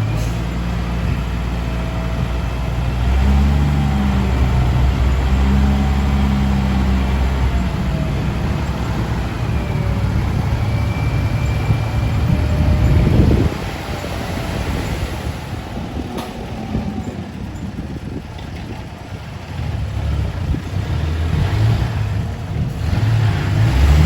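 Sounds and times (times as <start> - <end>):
dump truck diesel engine: 0.0 - 24.0
road and tyre noise: 0.0 - 24.0.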